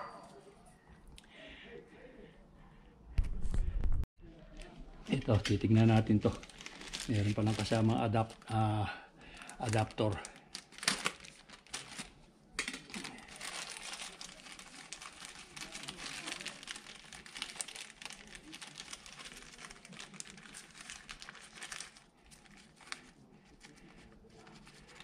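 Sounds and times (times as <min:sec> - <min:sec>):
plastic bag crinkling: 0:04.4 - 0:25.0.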